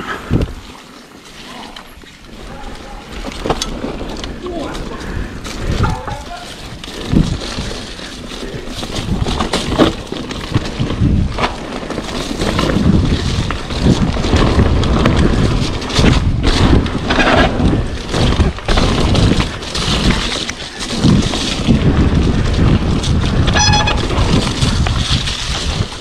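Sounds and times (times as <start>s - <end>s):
mountain bike rattling on trail: 0.0s - 26.0s
wind on microphone: 3.8s - 26.0s.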